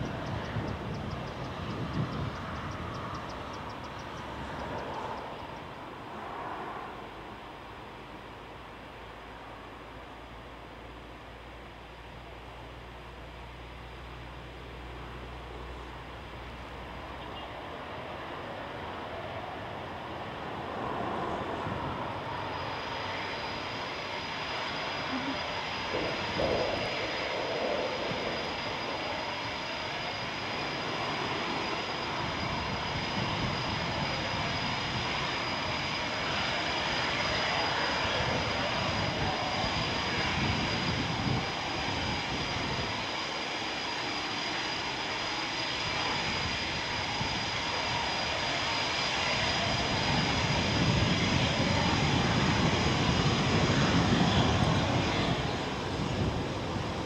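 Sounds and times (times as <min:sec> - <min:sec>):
jet engines whining: 0:00.0 - 0:08.9, 0:12.9 - 0:57.0.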